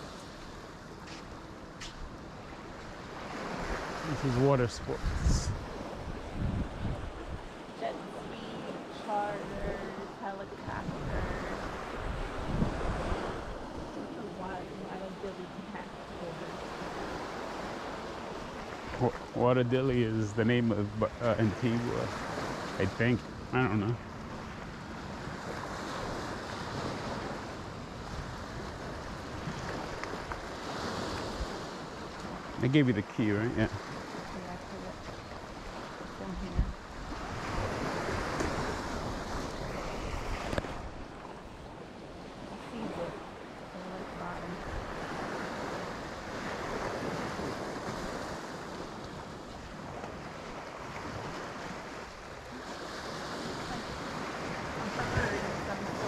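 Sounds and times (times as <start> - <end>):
small waves washing onto sand: 0.0 - 56.0
wind rumbling on microphone: 0.0 - 56.0.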